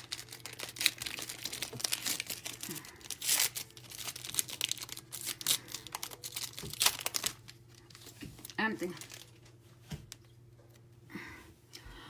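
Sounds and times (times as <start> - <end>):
foil wrappers crinkling and tearing: 0.0 - 10.2.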